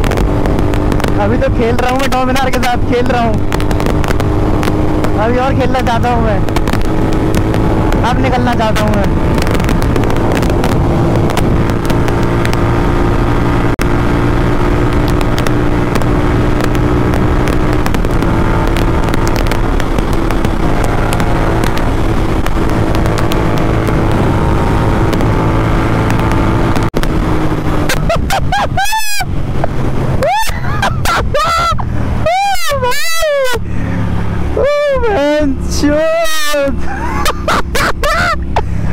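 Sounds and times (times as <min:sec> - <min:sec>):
motorcycle engine at speed: 0:00.0 - 0:38.9
wind buffeting microphone: 0:00.0 - 0:38.9.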